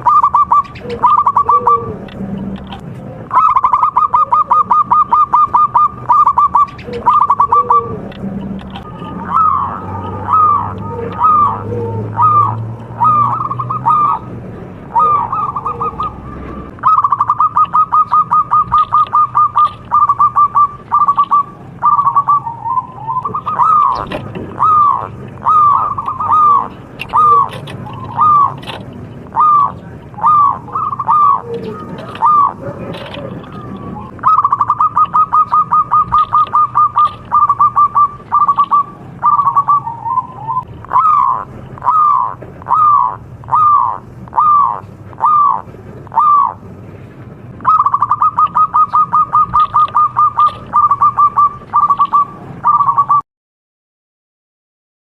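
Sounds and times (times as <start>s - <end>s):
dove cooing: 0.0s - 46.7s, 47.6s - 53.2s.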